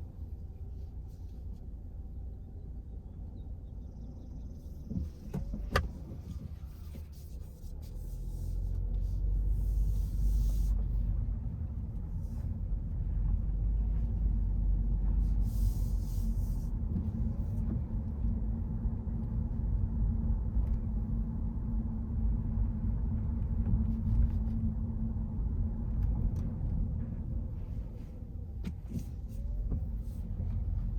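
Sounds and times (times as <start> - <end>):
car driving on wet road: 4.8 - 21.2, 22.1 - 30.9.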